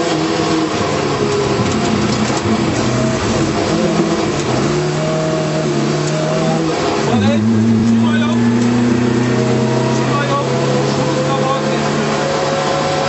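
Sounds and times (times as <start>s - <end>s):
rally car engine revving: 0.0s - 13.0s
tyre and road noise: 0.0s - 13.0s.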